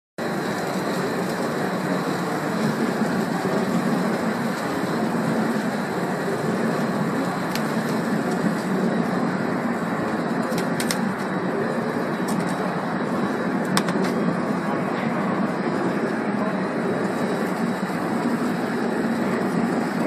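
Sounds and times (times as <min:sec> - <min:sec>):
wrapping machine drone: 0:00.2 - 0:20.0.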